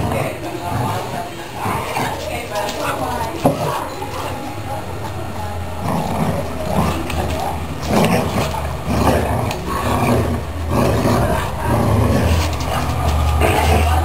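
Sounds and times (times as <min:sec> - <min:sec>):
dogs growling: 0:00.0 - 0:14.0.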